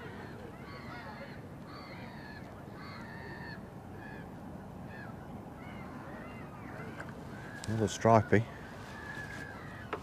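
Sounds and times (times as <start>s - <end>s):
waterbirds calling: 0.0s - 10.0s.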